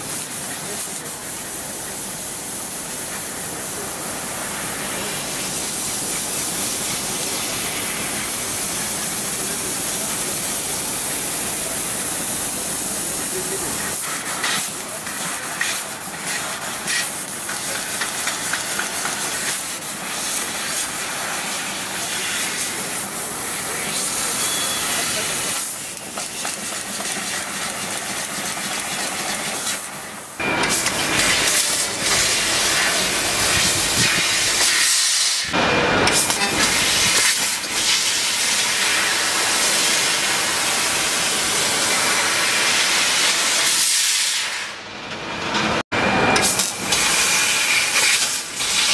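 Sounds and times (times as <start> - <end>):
laser cutter gas hiss: 0.0 - 44.8, 46.2 - 48.9.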